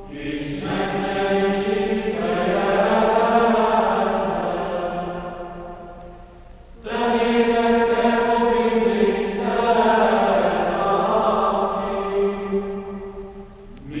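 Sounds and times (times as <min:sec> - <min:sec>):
chanted singing: 0:00.0 - 0:06.2, 0:06.8 - 0:14.0.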